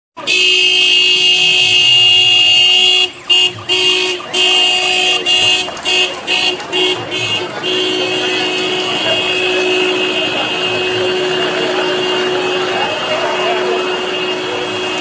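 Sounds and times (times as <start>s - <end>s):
horn blaring and tooting: 0.2s - 15.0s.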